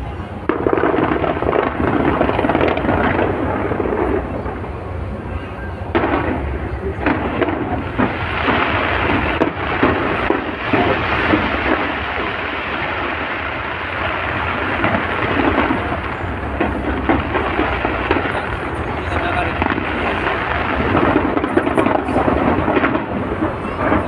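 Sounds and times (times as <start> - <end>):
fireworks booms: 0.0 - 24.0
fireworks crackling and popping: 0.0 - 24.0.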